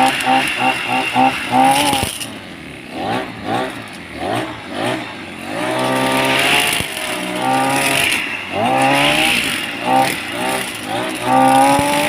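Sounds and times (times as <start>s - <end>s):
brush cutter engine revving: 0.0s - 12.0s.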